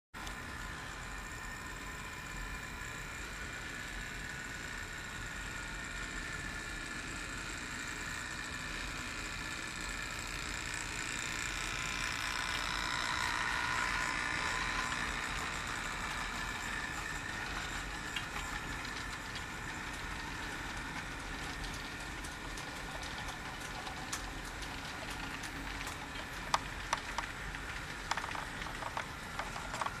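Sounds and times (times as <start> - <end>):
model train motor whine: 0.2 - 30.0.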